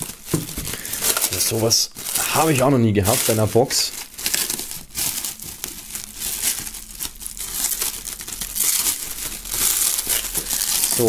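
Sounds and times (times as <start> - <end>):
plastic film crinkling and tearing: 0.0 - 11.0.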